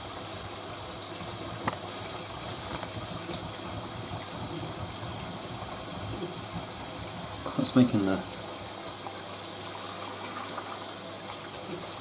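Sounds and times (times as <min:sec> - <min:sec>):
washing machine filling with water: 0:00.0 - 0:12.0.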